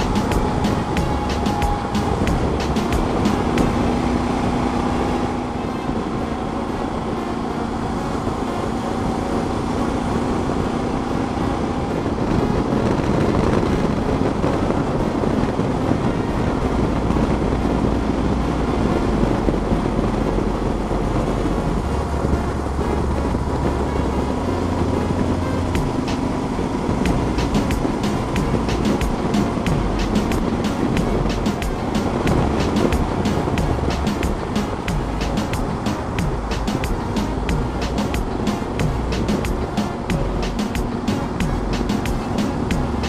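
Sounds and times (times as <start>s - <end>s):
motorcycle engine: 0.0s - 15.5s, 16.2s - 43.0s
background music: 0.0s - 43.0s
wind noise: 0.0s - 43.0s.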